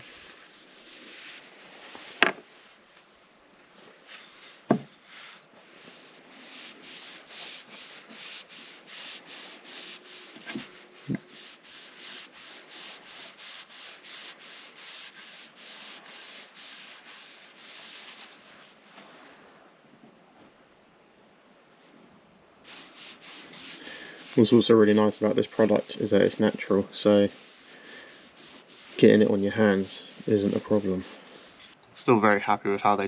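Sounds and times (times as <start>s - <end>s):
cloth rubbing wooden wand: 0.0s - 19.5s, 22.6s - 31.8s.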